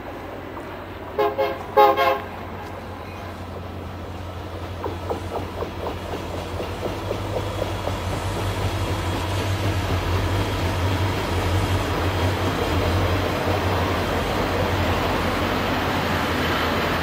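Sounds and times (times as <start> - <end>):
diesel locomotive engine drone: 0.0 - 17.0
train wheels clicking over rail joints: 1.6 - 17.0.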